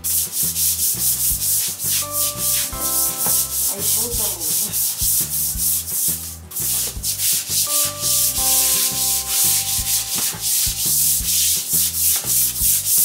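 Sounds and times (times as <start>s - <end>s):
brush scrubbing wet floor: 0.0s - 13.0s.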